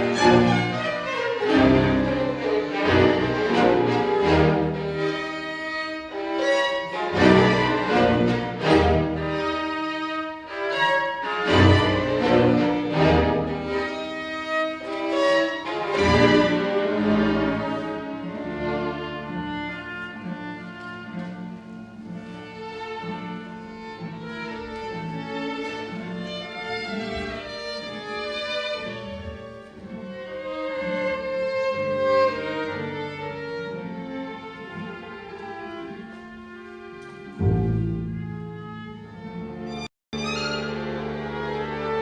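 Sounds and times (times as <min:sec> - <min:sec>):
cellos and basses playing: 0:00.0 - 0:42.0
violins playing: 0:00.0 - 0:42.0.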